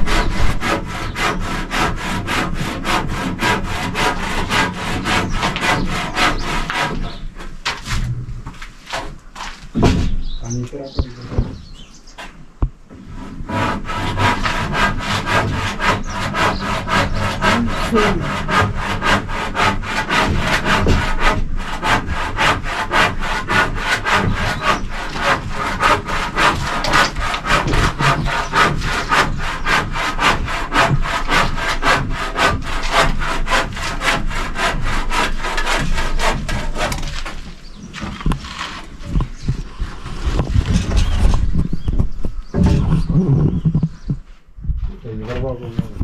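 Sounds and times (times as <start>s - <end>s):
handsaw cutting timber: 0.0s - 10.0s, 11.1s - 41.4s.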